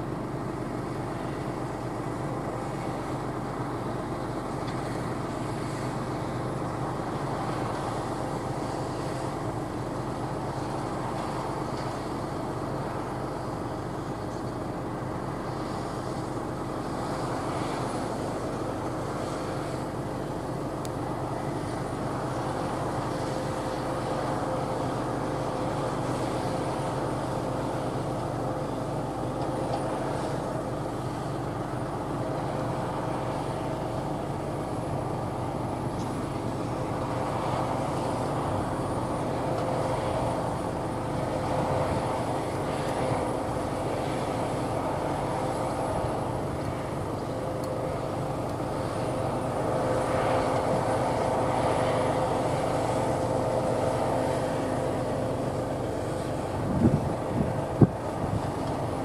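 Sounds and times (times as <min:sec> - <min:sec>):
combine harvester droning: 0:00.0 - 0:59.0
machinery whine: 0:00.0 - 0:59.0.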